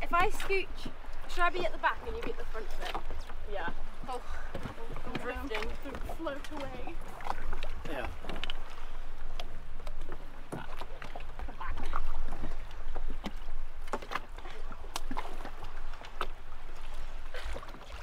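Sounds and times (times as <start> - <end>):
water lapping against inflatables: 0.0 - 18.0.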